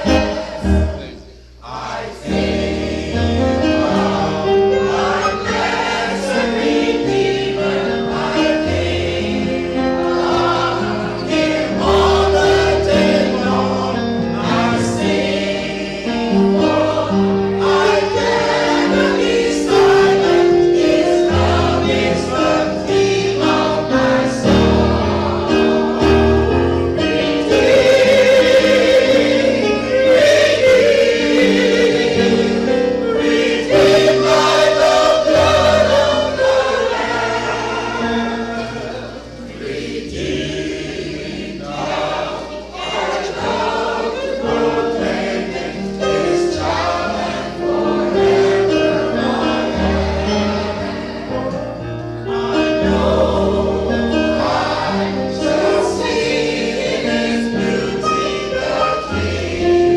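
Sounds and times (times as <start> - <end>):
choir singing gospel: 0.0 - 59.9.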